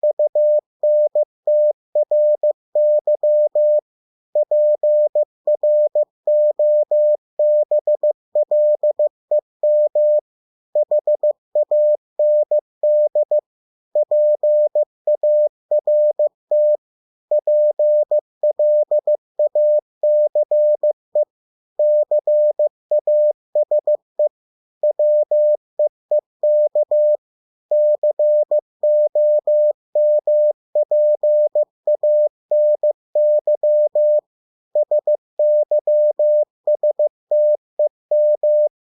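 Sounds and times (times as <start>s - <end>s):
morse code beeps: 0.0s - 3.8s, 4.4s - 10.2s, 10.8s - 13.4s, 14.0s - 24.0s, 24.8s - 34.2s, 34.8s - 38.7s.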